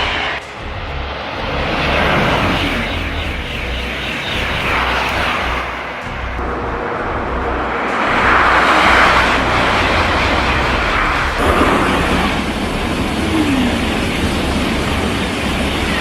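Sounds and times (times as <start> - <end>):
high-speed train rushing: 0.0 - 16.0.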